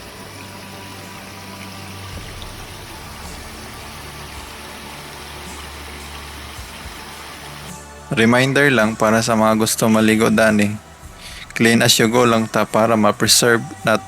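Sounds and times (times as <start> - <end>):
creek flowing over rocks: 0.0 - 14.0.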